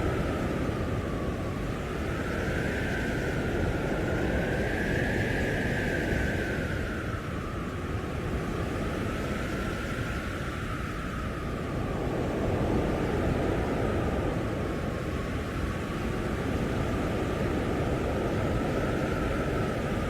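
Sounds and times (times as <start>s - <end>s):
blizzard wind howling: 0.0s - 20.0s.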